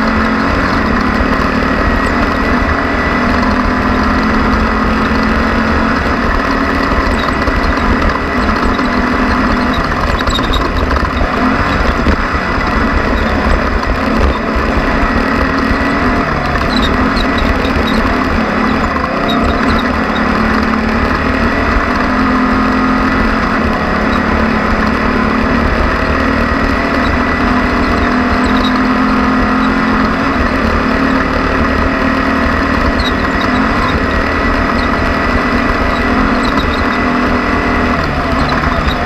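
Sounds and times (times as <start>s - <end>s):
constant rushing noise: 0.0s - 39.0s
off-road vehicle engine running: 0.0s - 39.0s.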